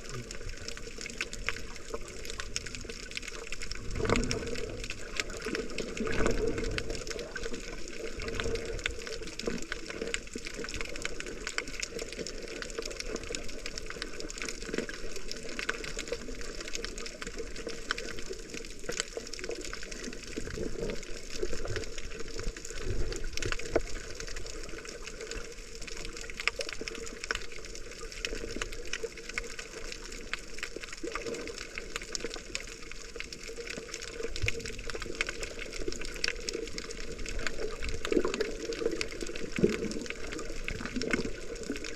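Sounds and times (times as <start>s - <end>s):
muffled underwater bubbling: 0.0s - 41.9s
sharp clicks and crackles: 0.0s - 41.9s.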